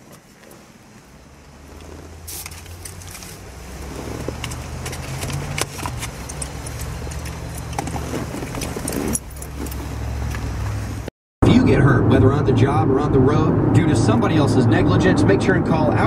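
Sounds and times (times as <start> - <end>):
car engine hum inside cabin: 0.0 - 16.0.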